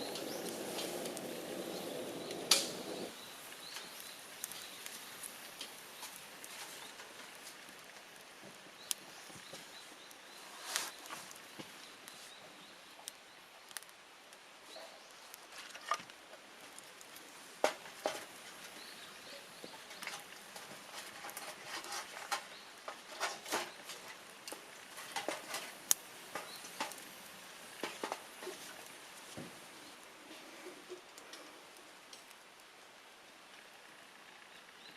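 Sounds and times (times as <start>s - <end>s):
wood fire crackling: 0.0s - 34.8s.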